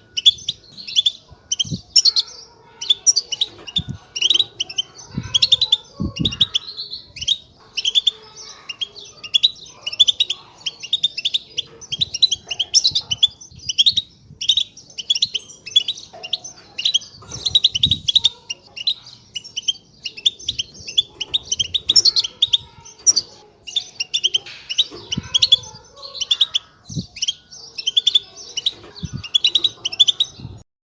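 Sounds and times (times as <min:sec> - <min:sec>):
goldfinches twittering: 0:00.0 - 0:30.6.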